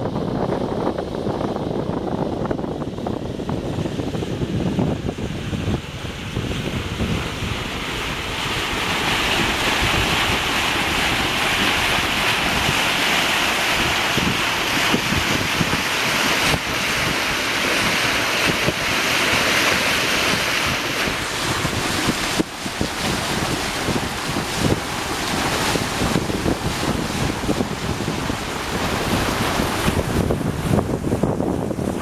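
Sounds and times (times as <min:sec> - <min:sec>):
water rushing along hull: 0:00.0 - 0:32.0
wind buffeting microphone: 0:00.0 - 0:32.0.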